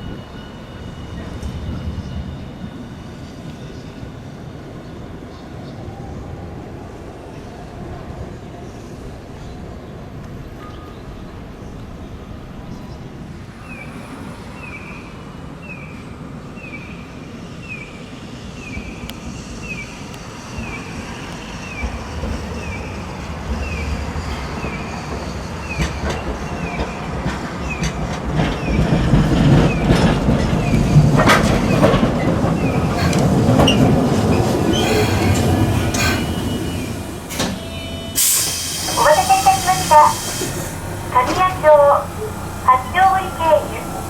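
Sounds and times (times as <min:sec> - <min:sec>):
tram passing with wheel clatter: 0:00.0 - 0:44.0.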